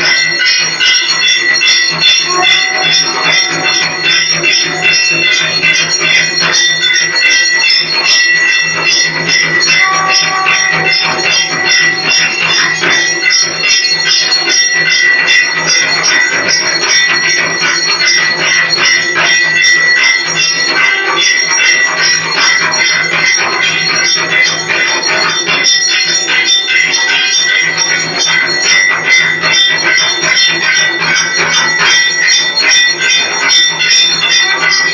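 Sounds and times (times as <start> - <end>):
metal percussion clanging: 0.0 - 34.9
temple bells ringing: 0.0 - 34.9.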